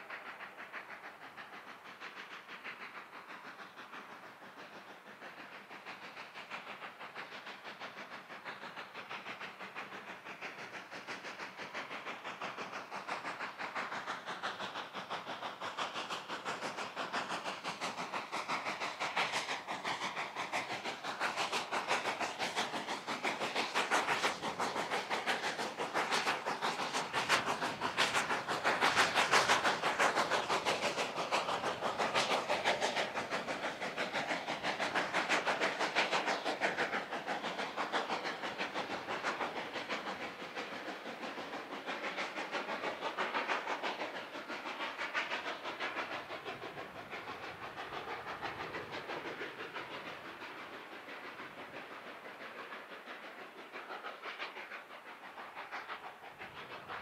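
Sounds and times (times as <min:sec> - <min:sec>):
steam hiss: 0:00.0 - 0:57.0
steam locomotive exhaust beats: 0:00.0 - 0:57.0.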